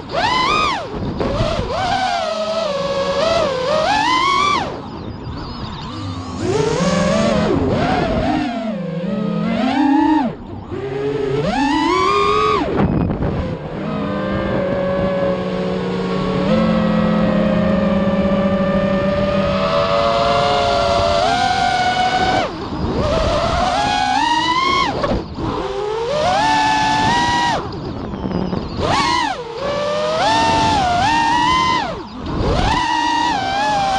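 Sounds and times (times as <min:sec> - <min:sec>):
quadcopter motors and propellers whining: 0:00.0 - 0:33.9.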